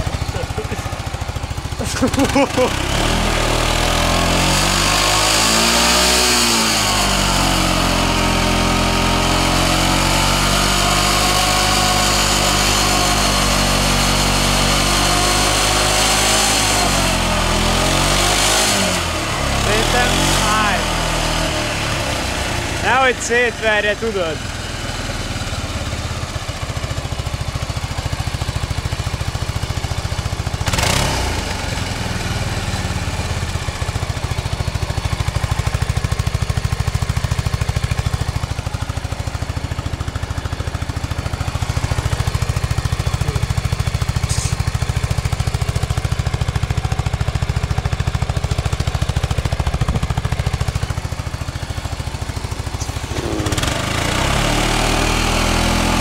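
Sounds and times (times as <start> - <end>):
scooter engine revving: 0.0 - 56.0.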